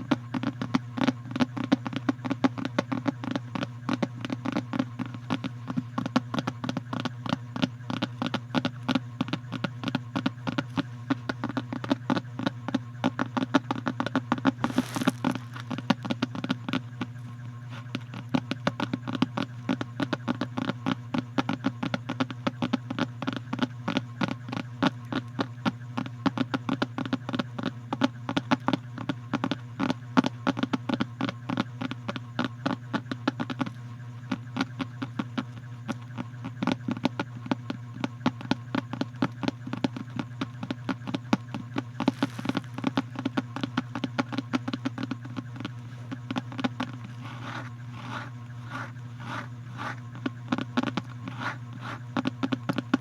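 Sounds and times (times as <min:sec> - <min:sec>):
rapid close-up clicks: 0:00.0 - 0:53.0
steady low hum: 0:00.0 - 0:53.0.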